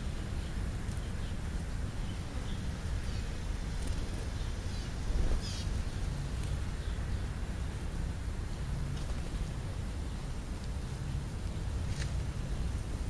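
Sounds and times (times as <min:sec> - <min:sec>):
sparrows chirping: 0:00.0 - 0:13.0
steady low rumble: 0:00.0 - 0:13.0.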